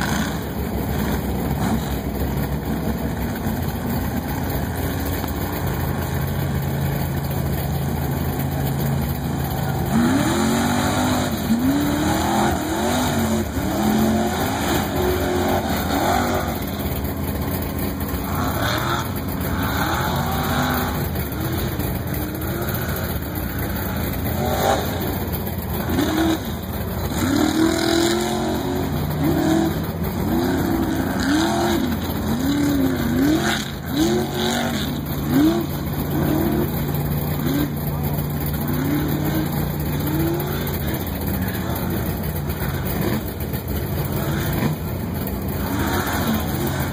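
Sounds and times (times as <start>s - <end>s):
truck engine racing: 0.0s - 46.9s.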